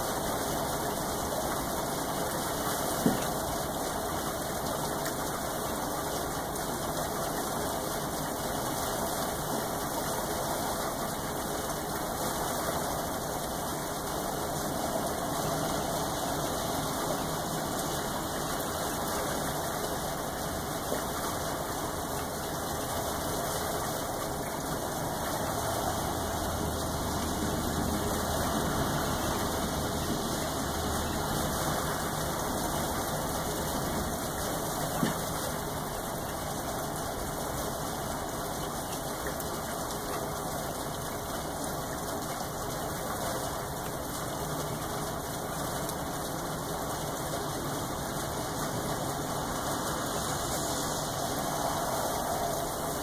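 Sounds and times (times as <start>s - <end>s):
sharp drip-like ticks: 0.0s - 53.0s
steady rain falling: 0.0s - 53.0s.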